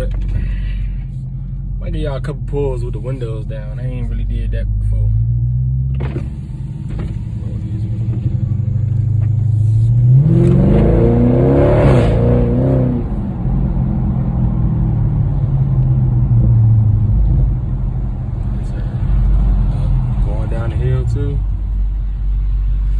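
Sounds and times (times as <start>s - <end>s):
car engine accelerating: 0.0s - 22.9s.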